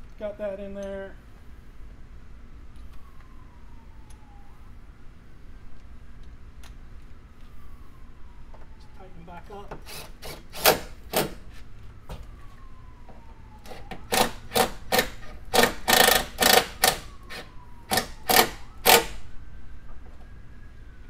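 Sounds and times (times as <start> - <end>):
faint siren wailing: 0.2 - 21.0.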